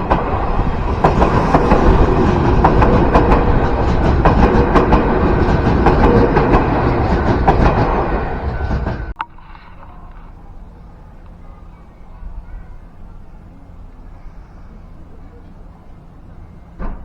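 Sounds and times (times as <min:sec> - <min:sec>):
train wheels clacking over rail joints: 0:00.0 - 0:14.2, 0:14.8 - 0:17.0
train rumble: 0:00.0 - 0:17.0.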